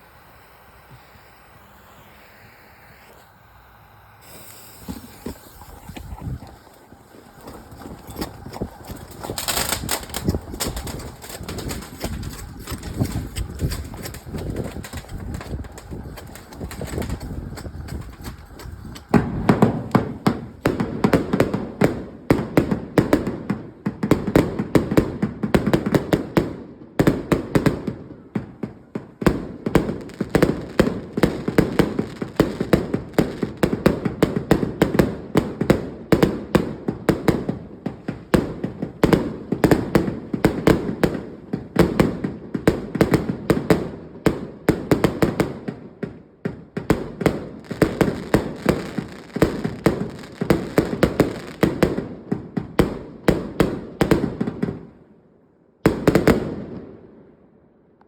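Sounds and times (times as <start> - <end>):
firework launches and bursts: 0.0 - 46.2, 46.8 - 54.6.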